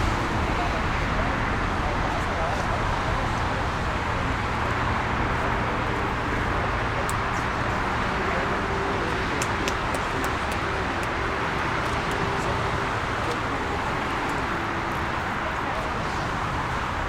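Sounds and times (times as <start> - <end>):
jet airliner engines running: 0.0 - 17.0.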